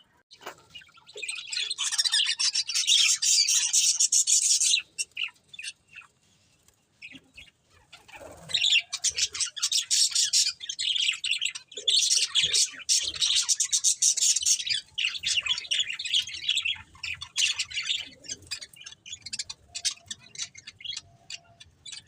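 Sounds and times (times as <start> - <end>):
budgerigars chirping: 1.1 - 6.1, 7.1 - 22.0.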